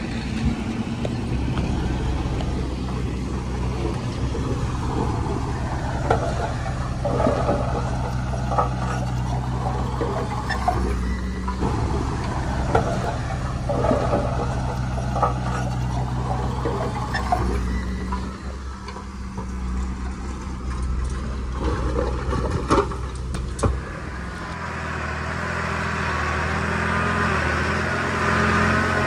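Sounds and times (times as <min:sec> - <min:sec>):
metal clanks and rattles: 0:00.0 - 0:23.9
bulldozer diesel engine running: 0:00.0 - 0:29.0.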